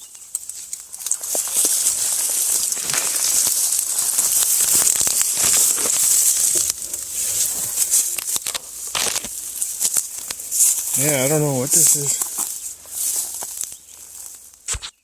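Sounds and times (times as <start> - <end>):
footsteps through dry brush: 0.0 - 15.0
twigs cracking: 0.0 - 15.0.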